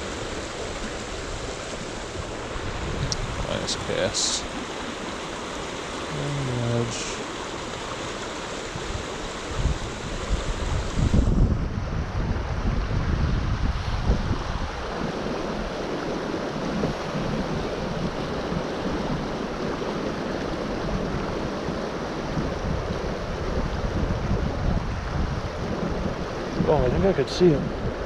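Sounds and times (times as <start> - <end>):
creek water rushing: 0.0 - 28.0
wind buffeting microphone: 0.0 - 28.0.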